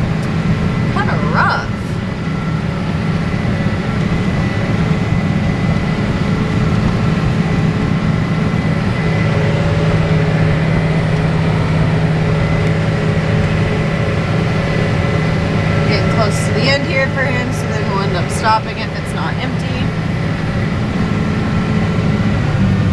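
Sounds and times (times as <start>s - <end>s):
steady whining tones: 0.0s - 22.9s
tractor engine droning: 0.0s - 22.9s.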